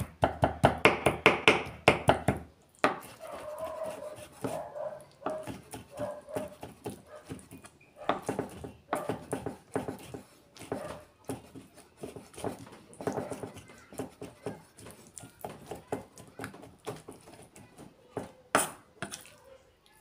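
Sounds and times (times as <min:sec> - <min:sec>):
knife chopping on wooden board: 0:00.0 - 0:03.2, 0:03.8 - 0:19.2.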